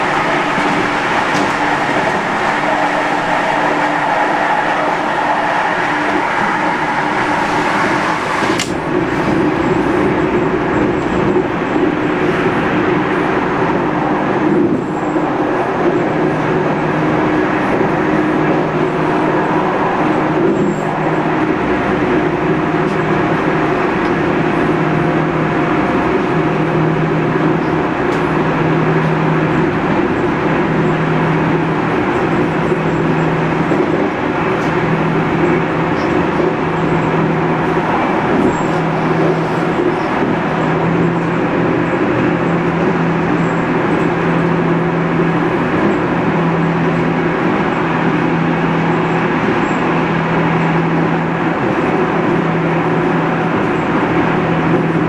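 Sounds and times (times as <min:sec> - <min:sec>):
train rolling noise: 0:00.0 - 0:55.0.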